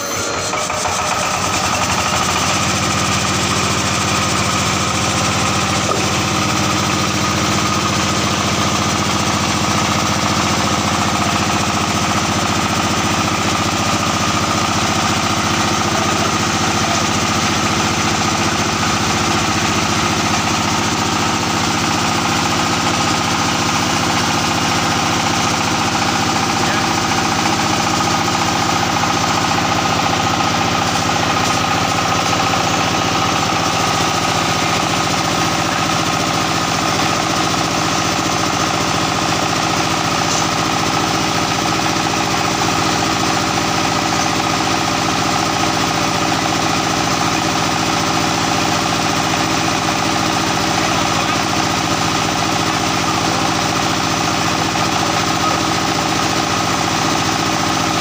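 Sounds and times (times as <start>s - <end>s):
diesel engine knocking: 0.0s - 58.0s.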